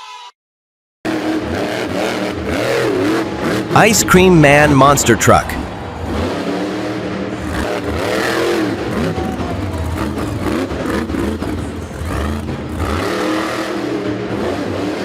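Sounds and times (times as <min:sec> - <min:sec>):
truck engine revving: 0:01.1 - 0:15.0.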